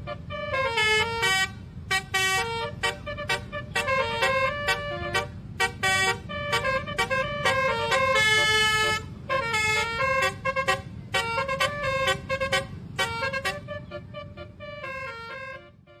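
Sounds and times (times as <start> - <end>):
low engine rumble: 0.0 - 16.0
multi-tone bus horn melody: 0.0 - 16.0.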